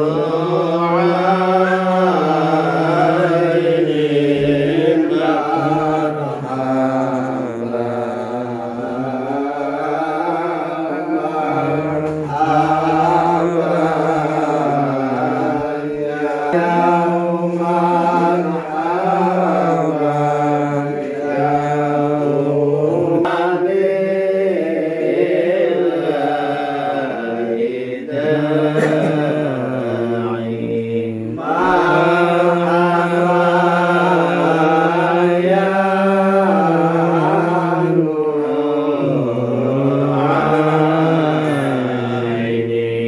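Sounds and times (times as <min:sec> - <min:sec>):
devotional chanting: 0:00.0 - 0:43.0.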